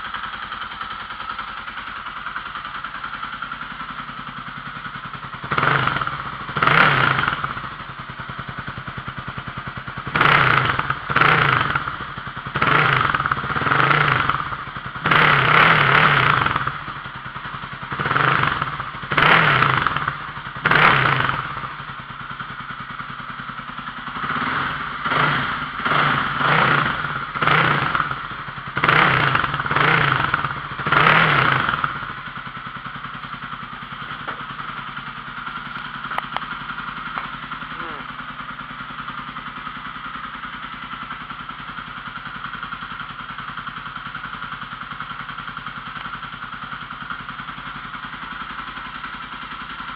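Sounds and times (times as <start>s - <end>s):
motorcycle engine idling and revving: 0.0s - 49.9s.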